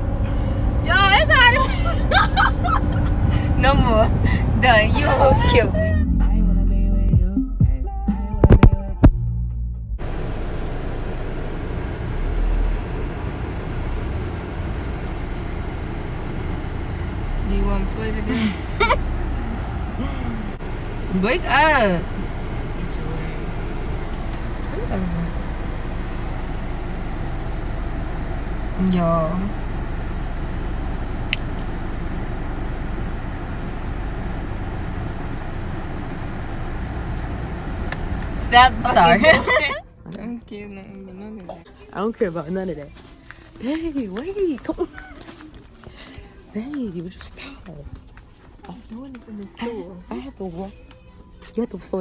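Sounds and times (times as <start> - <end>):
car road and engine noise: 0.0 - 6.2, 8.4 - 52.0.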